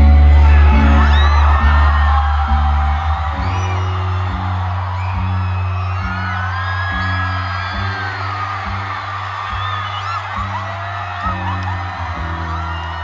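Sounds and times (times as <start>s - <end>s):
crowd screaming and whooping: 0.0s - 13.0s
low bass notes: 0.0s - 13.0s.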